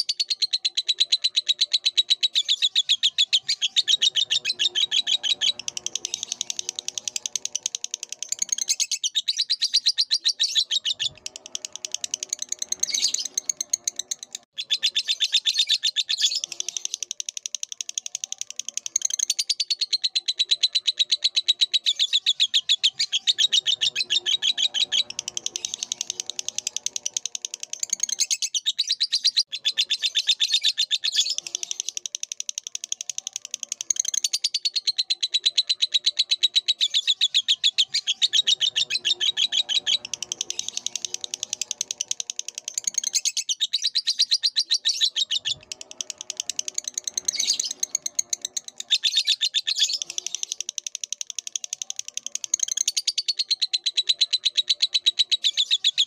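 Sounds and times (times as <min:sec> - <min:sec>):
lovebird chattering: 0:00.0 - 0:56.0.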